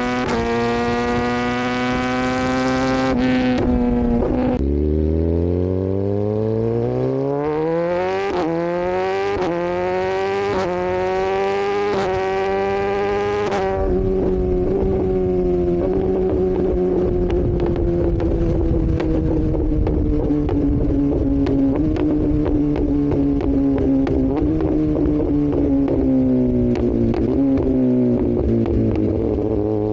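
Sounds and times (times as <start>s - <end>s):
motorcycle engine accelerating: 0.0s - 29.9s.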